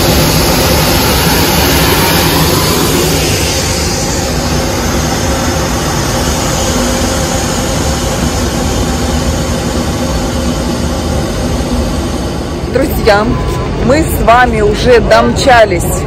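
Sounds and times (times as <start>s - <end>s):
train rumbling at speed: 0.0s - 16.0s.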